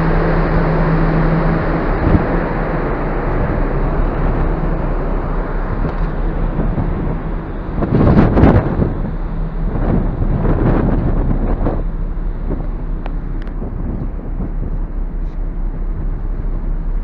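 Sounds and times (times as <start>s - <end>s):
low steady hum: 0.0s - 17.0s
ship rumbling at sea: 0.0s - 17.0s
wind over microphone: 1.4s - 17.0s.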